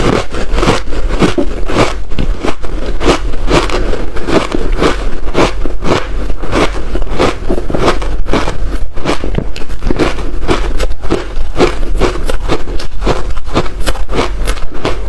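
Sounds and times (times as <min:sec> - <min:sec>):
ice crunching: 0:00.0 - 0:15.0
low steady hum: 0:00.0 - 0:15.0.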